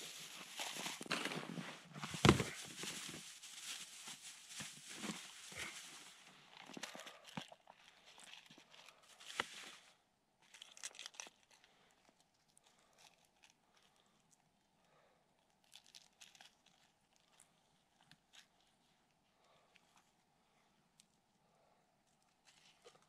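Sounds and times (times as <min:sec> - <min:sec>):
faint crackles: 0:00.0 - 0:21.2
faint rustling and crinkling: 0:00.0 - 0:23.0.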